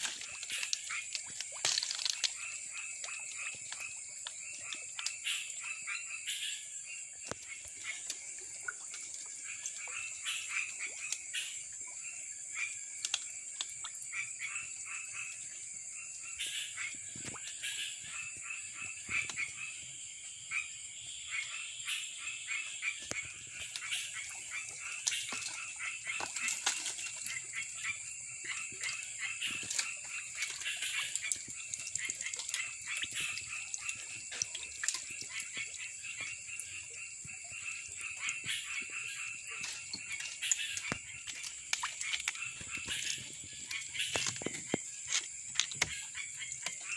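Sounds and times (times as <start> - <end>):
frogs croaking in chorus: 0.0 - 46.9.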